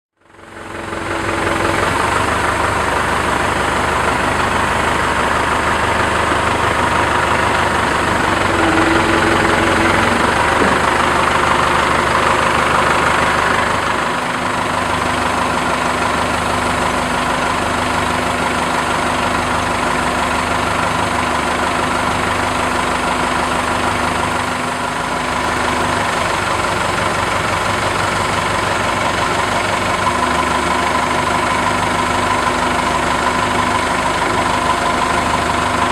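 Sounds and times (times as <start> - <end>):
heavy diesel engine running: 0.2 - 35.9.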